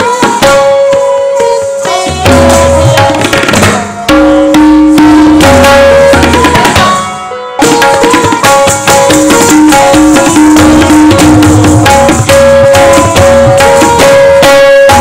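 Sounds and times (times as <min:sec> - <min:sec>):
tabla playing fast rhythm: 0:00.0 - 0:15.0.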